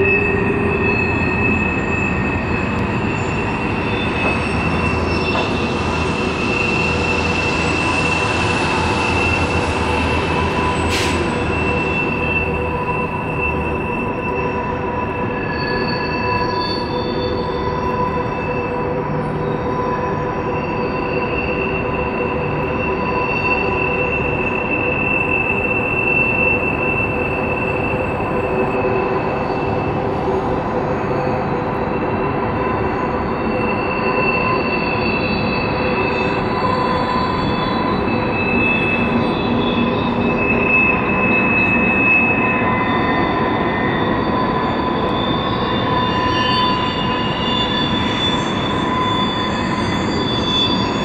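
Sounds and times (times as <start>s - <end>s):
rumble of passing train cars: 0.0s - 51.0s
train wheels squealing: 0.0s - 51.0s.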